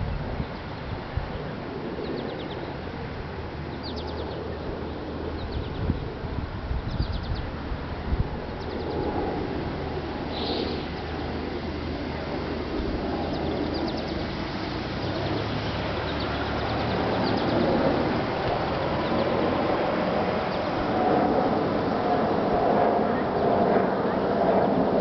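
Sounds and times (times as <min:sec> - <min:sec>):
outdoor noise: 0:00.0 - 0:25.0.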